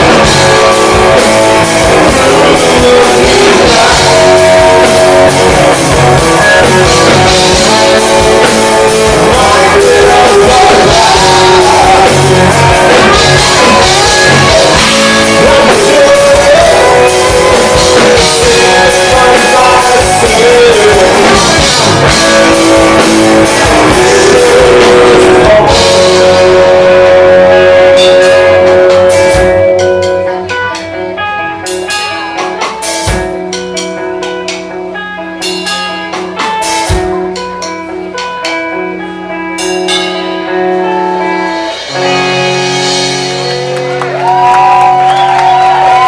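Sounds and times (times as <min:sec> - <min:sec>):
bass guitar: 0:00.0 - 0:46.0
drums: 0:00.0 - 0:46.0
electric guitar: 0:00.0 - 0:46.0.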